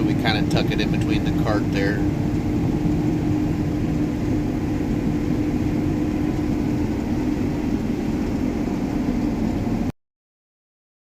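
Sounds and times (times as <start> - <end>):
combine harvester droning: 0.0 - 9.9.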